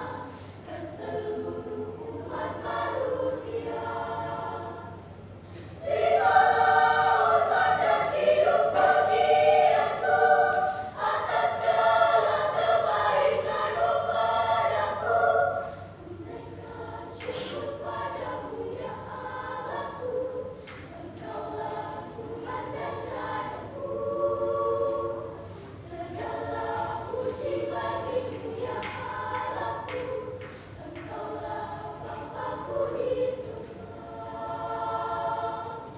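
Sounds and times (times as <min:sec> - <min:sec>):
children's choir singing: 0:00.0 - 0:35.9.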